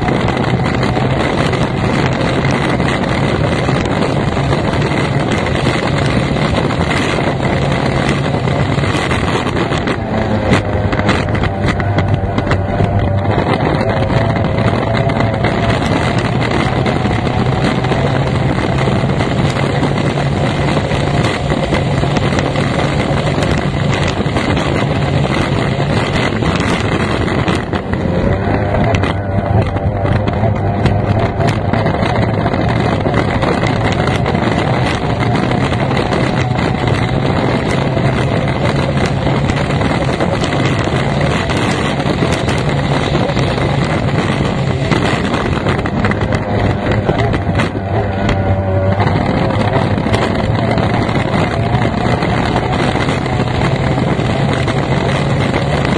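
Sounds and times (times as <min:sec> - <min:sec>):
outboard engine running hard: 0:00.0 - 0:55.9
rushing wind and water: 0:00.0 - 0:55.9.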